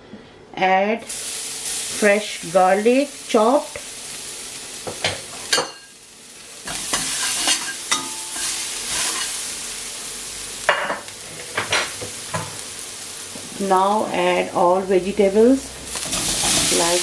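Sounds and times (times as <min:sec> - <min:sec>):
garlic sizzling in oil: 0:01.0 - 0:17.0.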